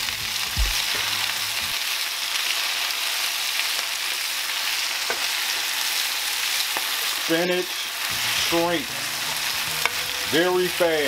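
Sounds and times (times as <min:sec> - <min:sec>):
spinach sizzling in oil: 0:00.0 - 0:11.0.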